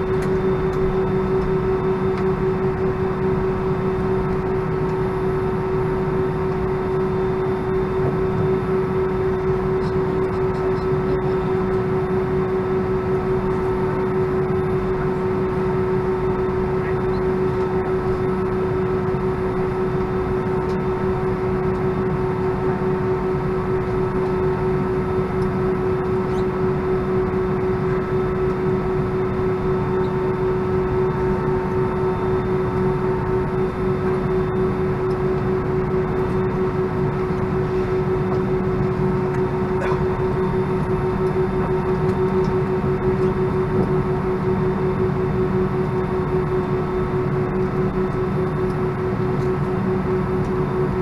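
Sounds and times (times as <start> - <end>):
airliner cabin hum: 0.0 - 51.0.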